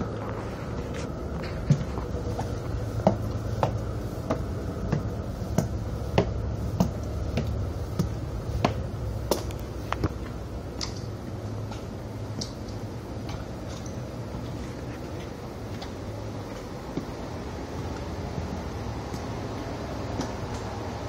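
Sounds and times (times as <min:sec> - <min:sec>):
footsteps climbing metal stairs: 0:00.0 - 0:21.0
steady low hum: 0:00.0 - 0:21.0.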